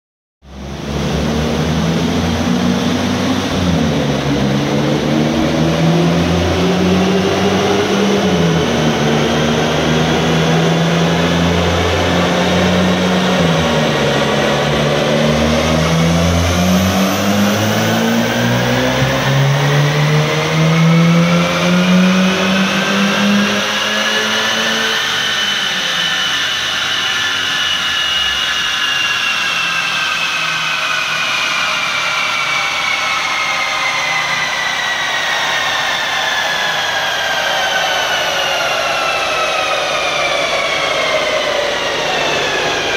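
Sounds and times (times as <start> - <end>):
car engine revving at full throttle: 0.5 - 42.9
high whine of tyres on rollers: 0.5 - 42.9.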